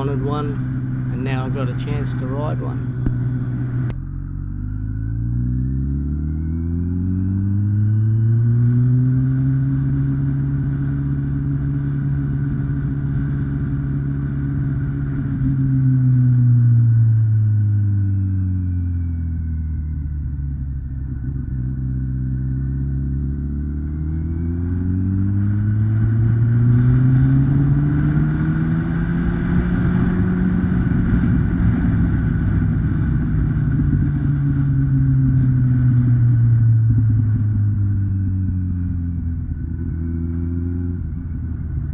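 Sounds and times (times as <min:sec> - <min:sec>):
motorcycle engine running: 0:00.0 - 0:41.9
wind and road noise: 0:00.0 - 0:41.9.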